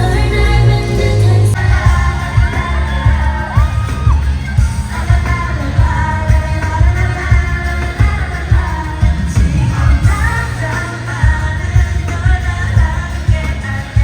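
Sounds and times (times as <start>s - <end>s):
heavy bass pulse: 0.0s - 14.0s
woman singing pop live: 0.0s - 14.0s.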